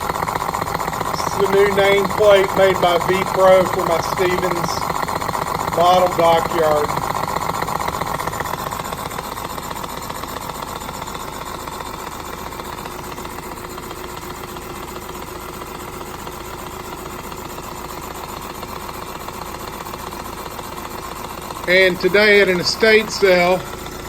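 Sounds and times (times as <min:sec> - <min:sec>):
toy steam engine running: 0:00.0 - 0:24.0.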